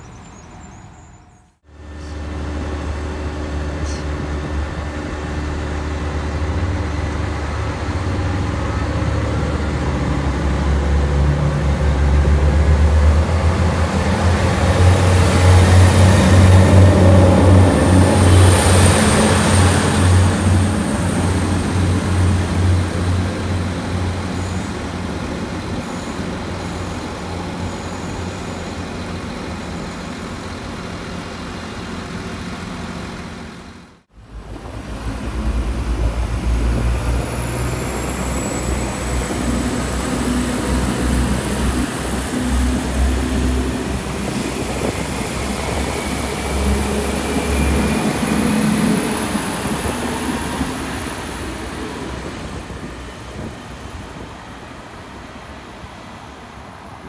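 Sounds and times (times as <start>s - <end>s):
diesel train engine rumble: 0.0s - 57.0s
train passing with pulsing rumble: 0.0s - 57.0s.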